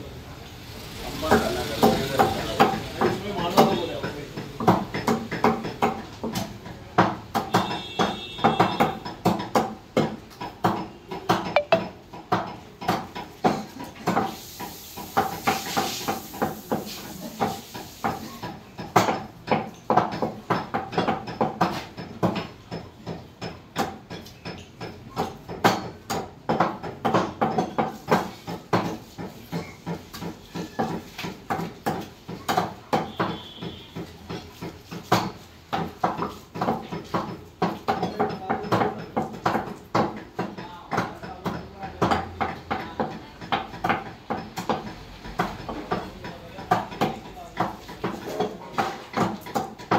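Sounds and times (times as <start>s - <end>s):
meat cleaver chopping on wood: 1.2s - 11.5s, 15.0s - 49.9s.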